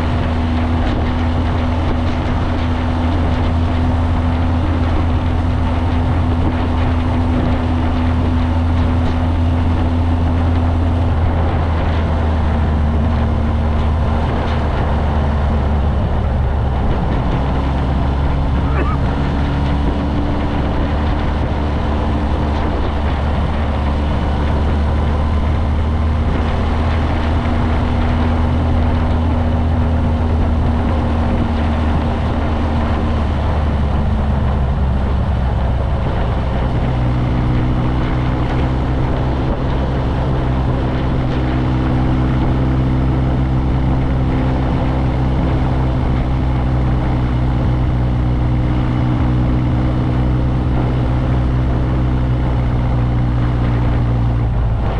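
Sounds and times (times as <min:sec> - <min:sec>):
motorcycle engine running: 0:00.0 - 0:54.9
riding noise: 0:00.0 - 0:54.9.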